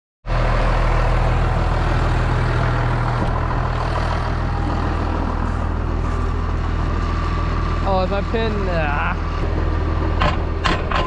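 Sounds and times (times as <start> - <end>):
tractor engine running: 0.3 - 11.0.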